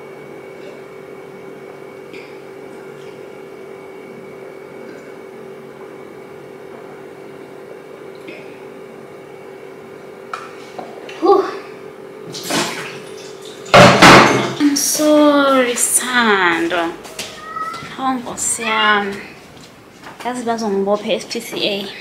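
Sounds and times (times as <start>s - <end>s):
steady tonal hum: 0.0s - 22.0s.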